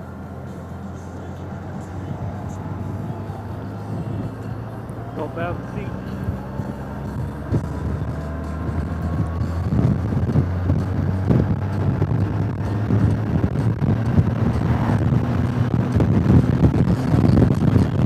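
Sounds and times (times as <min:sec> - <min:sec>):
motorcycle engine running: 0:00.0 - 0:18.0
wind buffeting microphone: 0:00.8 - 0:18.0.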